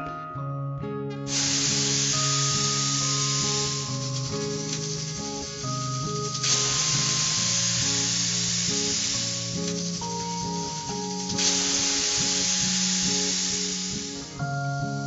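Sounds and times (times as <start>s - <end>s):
background music: 0.0s - 15.0s
chickpeas hissing and sizzling: 1.3s - 14.5s.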